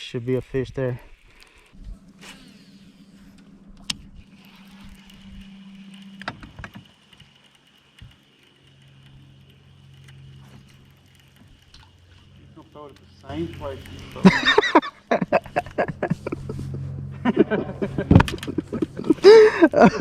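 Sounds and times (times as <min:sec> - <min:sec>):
low engine hum: 0:01.1 - 0:20.0.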